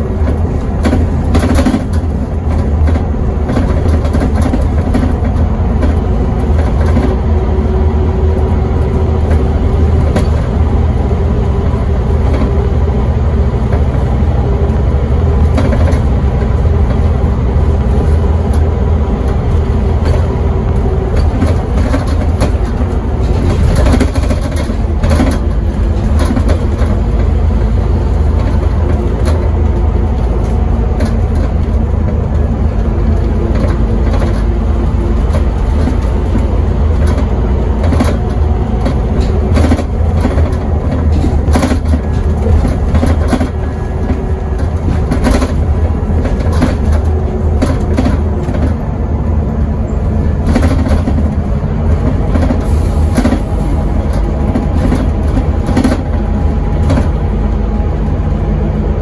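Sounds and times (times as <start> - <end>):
bus engine low drone: 0.0 - 59.0
road noise: 0.0 - 59.0.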